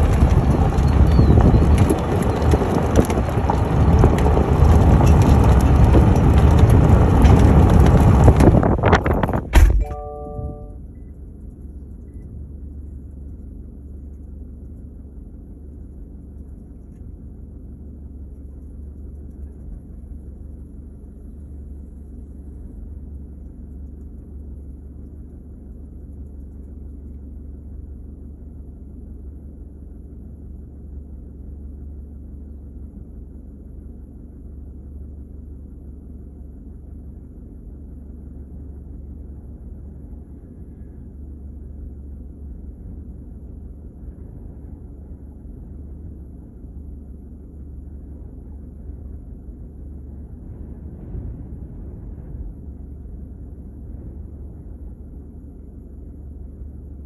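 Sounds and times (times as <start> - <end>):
low rumble in car cabin: 0.0 - 57.0.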